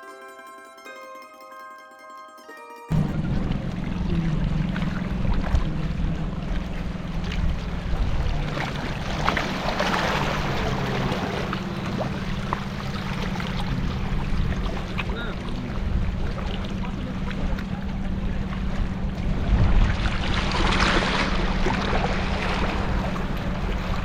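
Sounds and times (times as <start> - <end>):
motorboat engine running: 2.9 - 24.0
wind: 2.9 - 24.0
water rushing: 3.0 - 24.0.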